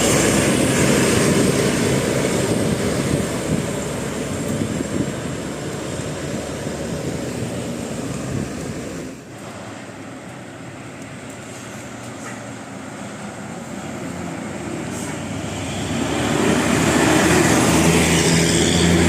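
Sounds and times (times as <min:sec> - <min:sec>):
bus driving past: 0:00.0 - 0:19.0.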